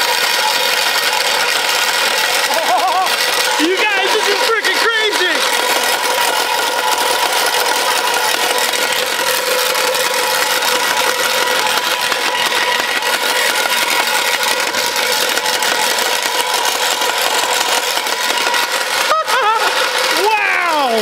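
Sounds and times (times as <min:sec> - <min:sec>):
electric motor humming with rattle: 0:00.0 - 0:21.0.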